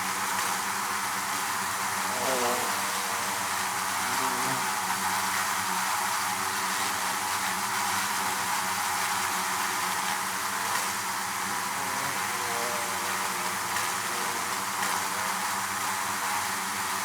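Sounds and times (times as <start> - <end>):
bees buzzing: 0.4 - 16.6.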